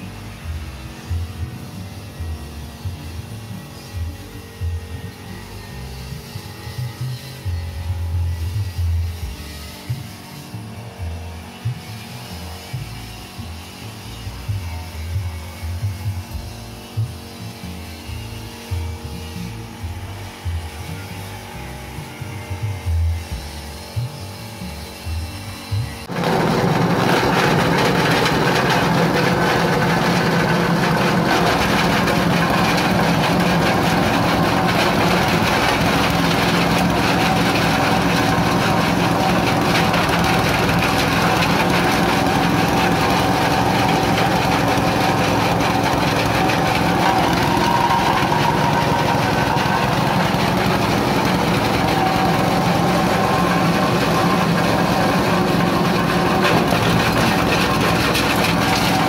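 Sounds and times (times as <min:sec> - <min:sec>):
grinder shredding husk: 0:00.0 - 0:59.0
small engine running: 0:00.0 - 0:59.0.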